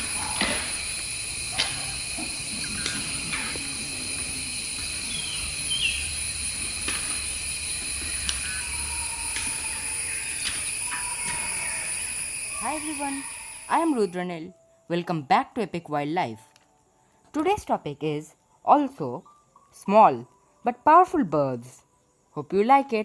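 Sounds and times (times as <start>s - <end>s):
high insect chorus: 0.0s - 23.0s.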